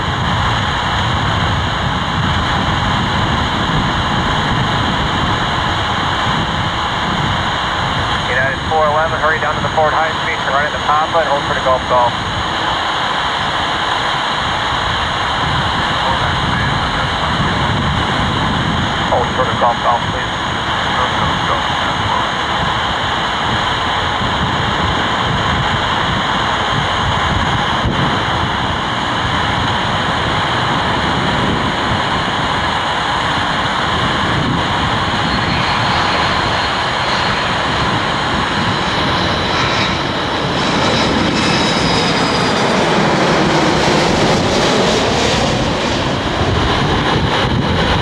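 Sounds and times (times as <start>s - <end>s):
high whine falling in pitch: 0.0s - 48.0s
jet engines rumbling: 0.0s - 48.0s
jet whooshing overhead: 0.0s - 48.0s.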